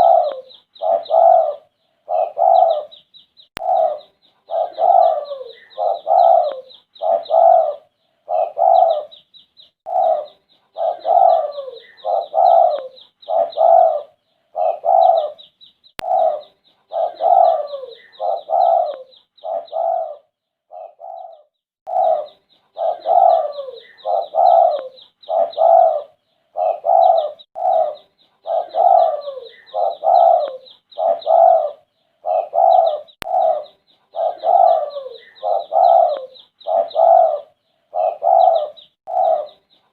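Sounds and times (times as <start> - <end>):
dove cooing: 0.0 - 3.0, 3.6 - 9.2, 9.8 - 39.9
small bird twittering chirp: 0.0 - 39.9.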